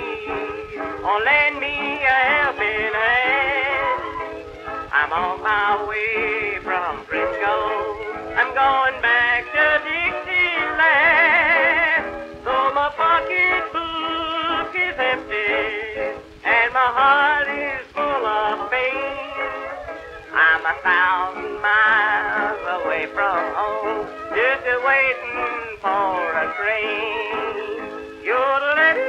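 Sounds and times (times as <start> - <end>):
old phonograph country song: 0.0 - 29.0.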